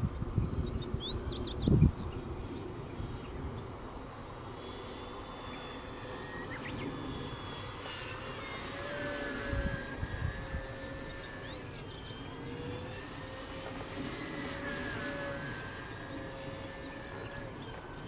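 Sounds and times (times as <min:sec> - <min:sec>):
model plane motor whine: 0:00.0 - 0:18.0.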